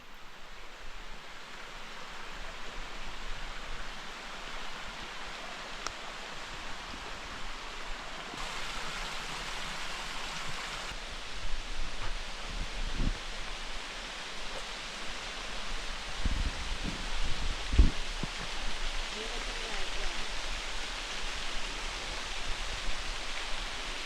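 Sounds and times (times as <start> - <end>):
small waterfall splashing: 0.4 - 24.0.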